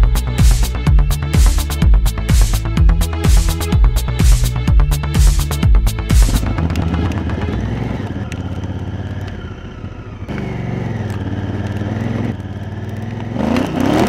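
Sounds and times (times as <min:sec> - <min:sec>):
motorcycle engine running at low revs: 0:00.0 - 0:14.0.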